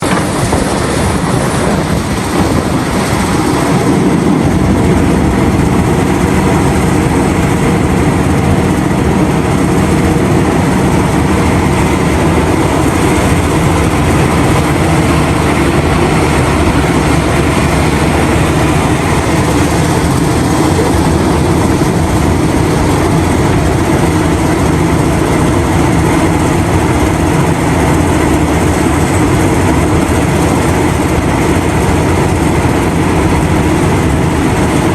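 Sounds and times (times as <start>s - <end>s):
heavy diesel machinery drone: 0.0s - 34.9s.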